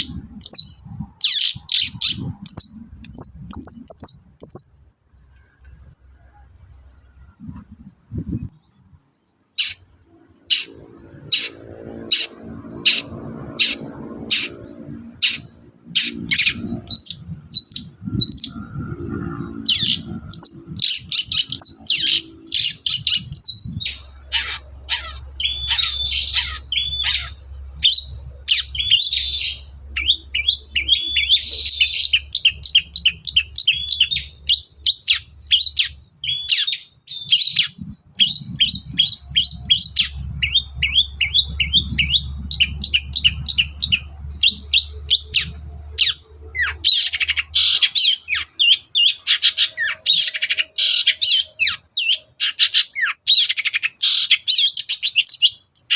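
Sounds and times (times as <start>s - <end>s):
shrike chirping song: 0.0s - 55.9s.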